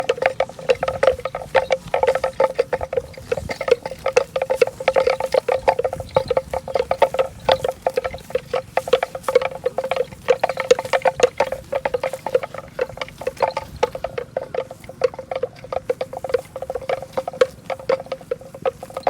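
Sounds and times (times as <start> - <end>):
cow bell clanking: 0.0 - 19.0.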